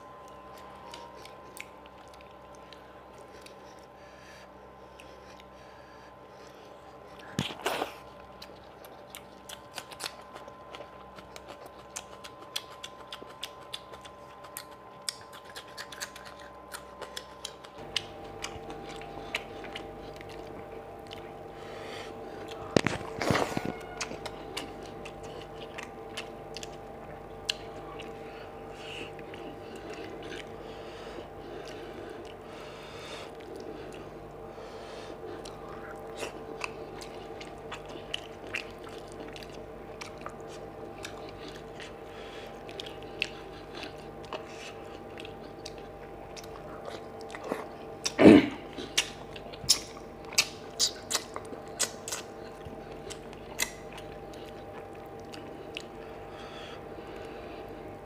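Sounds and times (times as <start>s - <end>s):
steady background hum: 0.0s - 58.0s
wet chewing and lip smacks: 0.1s - 5.6s, 6.3s - 32.6s, 33.2s - 34.5s, 35.1s - 58.0s.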